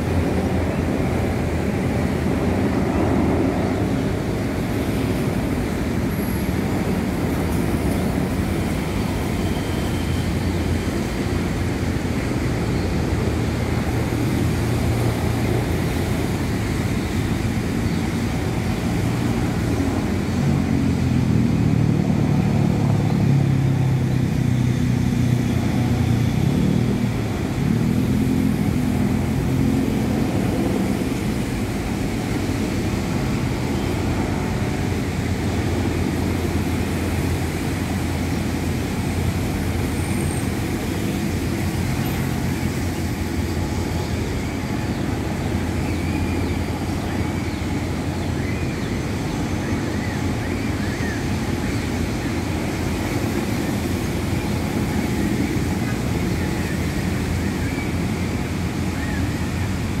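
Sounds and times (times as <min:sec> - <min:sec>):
distant helicopters droning: 0:00.0 - 1:00.0.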